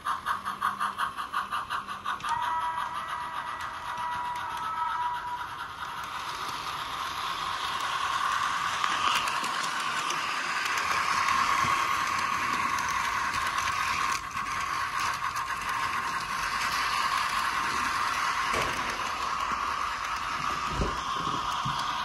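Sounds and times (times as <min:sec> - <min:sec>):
model train motor whirring: 0:00.0 - 0:22.0.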